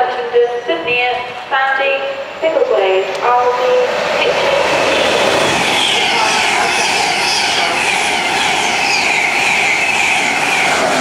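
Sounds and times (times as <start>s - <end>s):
train passing close by: 0.0s - 11.0s.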